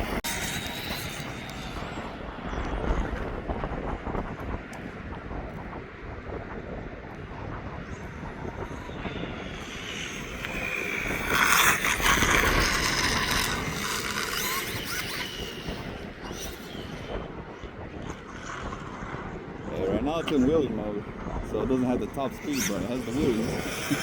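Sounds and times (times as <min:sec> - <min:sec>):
electric motor whining: 0:00.0 - 0:03.8, 0:07.1 - 0:24.0.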